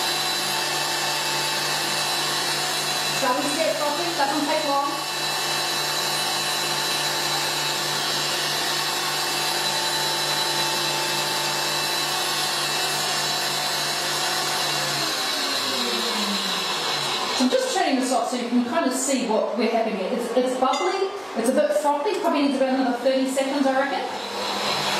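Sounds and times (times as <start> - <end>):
stand mixer whisking: 0.0 - 18.8, 23.4 - 24.9.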